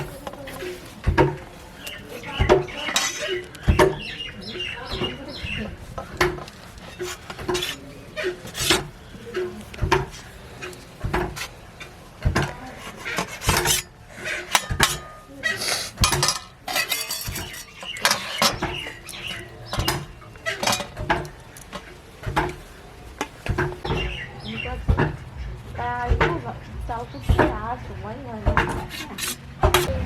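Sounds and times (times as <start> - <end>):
metal kitchen utensils clinking: 0.0 - 25.4, 26.0 - 30.0.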